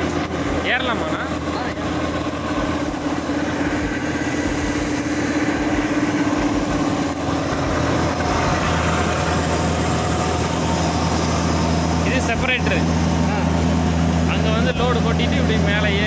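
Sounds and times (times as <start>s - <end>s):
machine hum and rumble: 0.0s - 16.0s.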